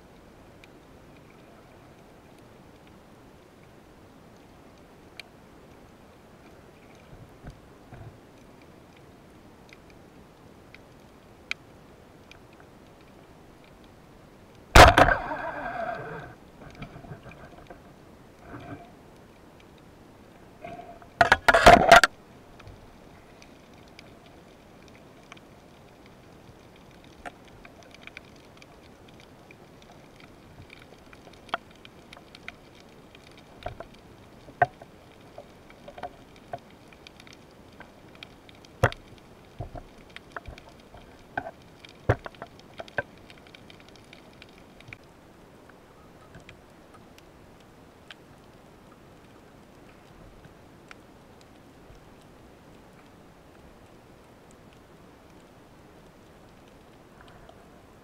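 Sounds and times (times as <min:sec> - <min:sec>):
faint hiss: 0:00.0 - 0:58.0.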